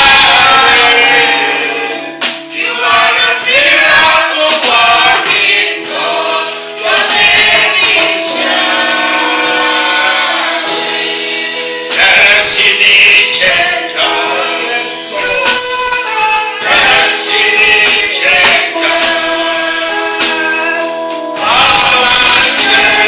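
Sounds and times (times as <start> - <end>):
gospel choir and congregation singing: 0.0 - 23.0.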